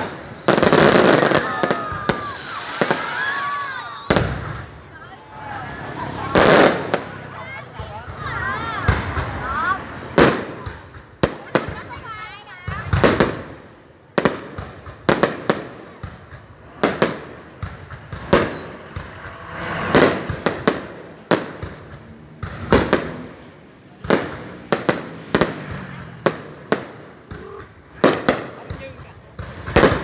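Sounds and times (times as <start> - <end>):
fireworks bangs with echo: 0.0 - 30.0.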